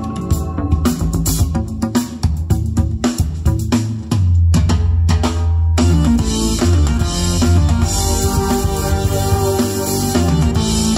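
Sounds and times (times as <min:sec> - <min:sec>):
pop rock music: 0:00.0 - 0:10.9.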